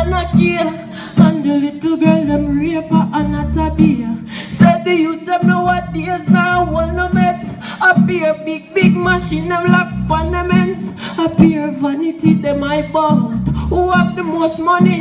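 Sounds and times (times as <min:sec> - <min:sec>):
bass: 0:00.0 - 0:15.0
man singing reggae: 0:00.0 - 0:15.0.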